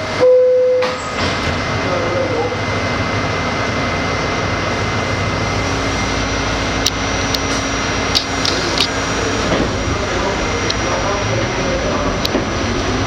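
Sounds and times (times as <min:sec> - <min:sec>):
subway car ventilation hum: 0:00.0 - 0:13.0.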